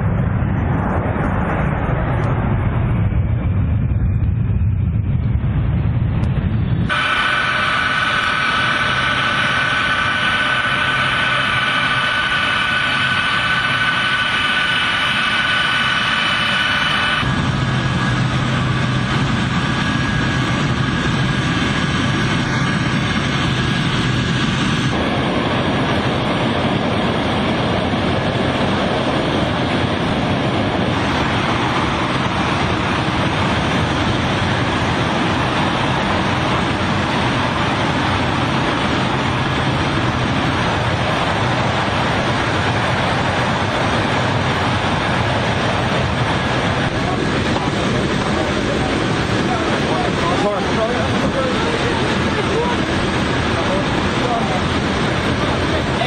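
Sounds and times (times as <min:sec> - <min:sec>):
aircraft engine whining: 0:00.0 - 0:56.0.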